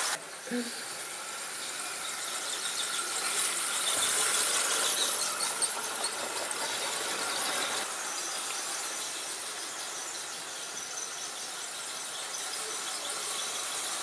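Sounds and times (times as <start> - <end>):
model train motors whirring: 0.0 - 14.0.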